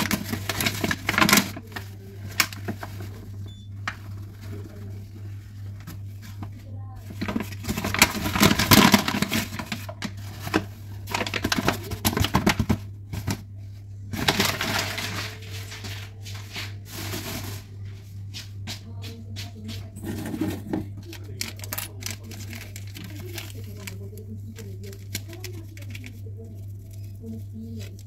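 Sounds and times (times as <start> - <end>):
paper flour bag crinkling: 0.0 - 28.0
steady low hum: 0.0 - 28.0.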